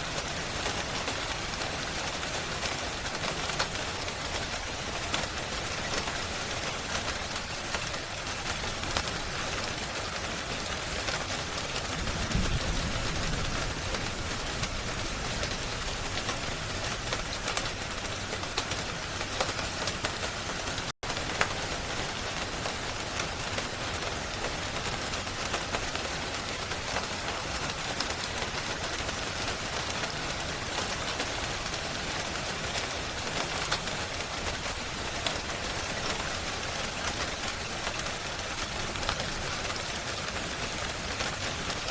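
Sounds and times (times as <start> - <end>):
rain hiss with patters: 0.0 - 41.9.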